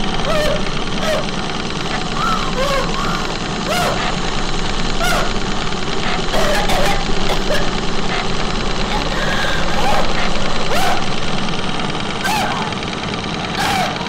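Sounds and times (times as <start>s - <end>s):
loud steady low drone: 0.0s - 14.0s.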